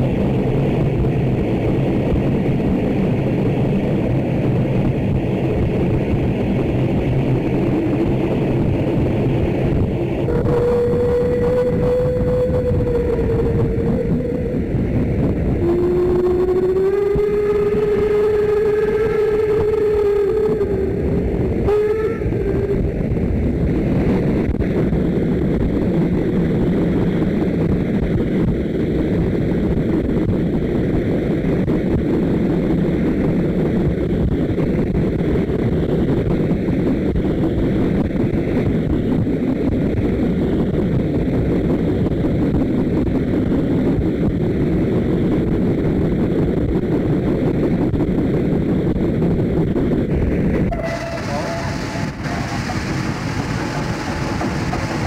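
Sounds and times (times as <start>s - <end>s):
rush of wind: 0.0s - 55.0s
train running noise: 0.0s - 55.0s.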